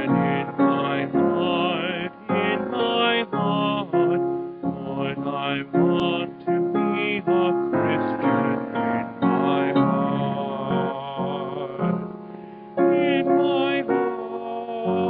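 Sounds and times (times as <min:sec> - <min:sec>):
instrumental hymn on piano: 0:00.0 - 0:15.0.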